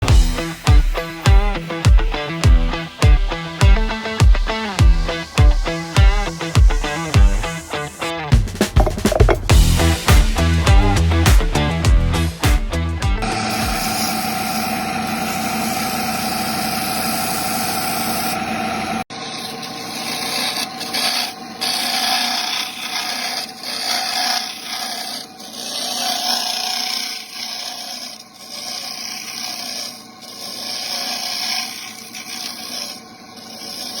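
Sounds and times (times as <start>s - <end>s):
power tool running against wood: 0.0s - 11.8s, 13.2s - 34.0s
wood rubbed abrasively: 0.0s - 18.6s, 19.4s - 34.0s.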